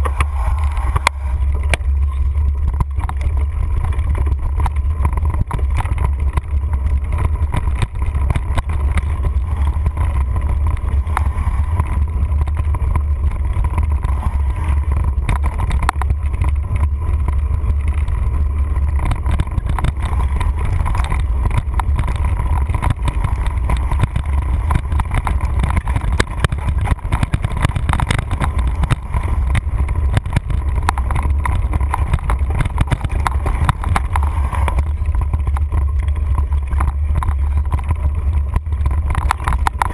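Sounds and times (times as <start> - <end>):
bike rattling over rough trail: 0.0 - 39.9
wind rumble on microphone: 0.0 - 39.9.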